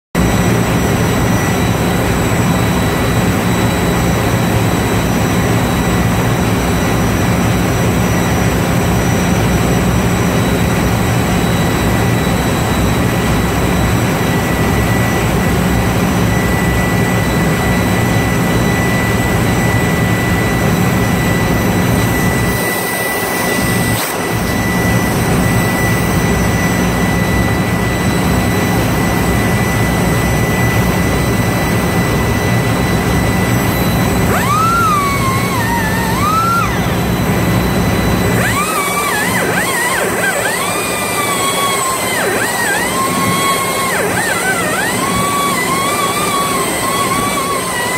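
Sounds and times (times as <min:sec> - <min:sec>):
constant high whine: 0:00.1 - 0:47.9
low machine hum: 0:00.2 - 0:47.9
valve-grinding machine running: 0:00.2 - 0:47.9.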